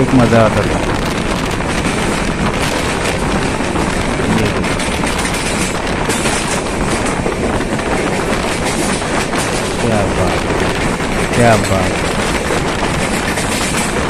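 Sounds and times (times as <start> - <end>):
train wheels rumbling on rails: 0.0 - 14.0
wheels knocking over rail joints: 0.0 - 14.0.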